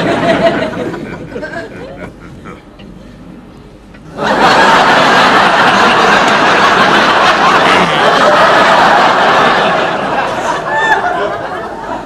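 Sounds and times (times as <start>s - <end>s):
laugh track: 0.0s - 2.8s, 4.0s - 12.0s.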